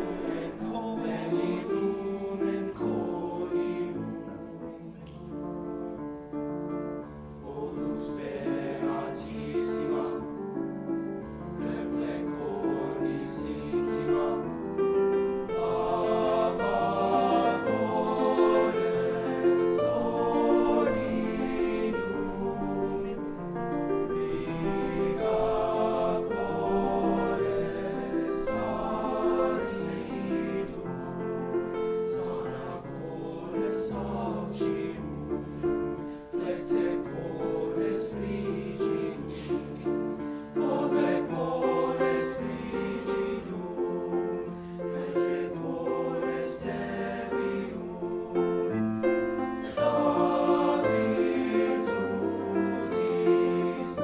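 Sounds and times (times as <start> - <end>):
grand piano: 0.0 - 54.0
men's choir singing: 0.0 - 54.0.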